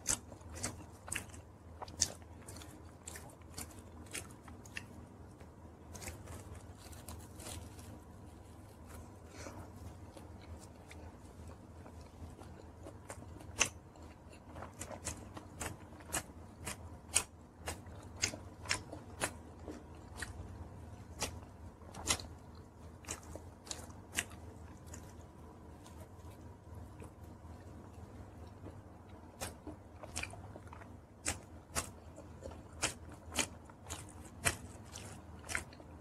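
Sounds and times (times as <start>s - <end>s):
mouth clicks and crunches: 0.0s - 36.0s
person chewing pizza: 0.0s - 36.0s.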